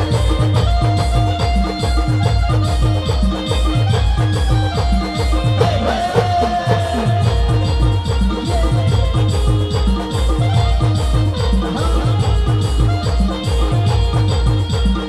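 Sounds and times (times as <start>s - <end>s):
driving drum beat: 0.0s - 15.0s
held melody line: 0.0s - 15.0s.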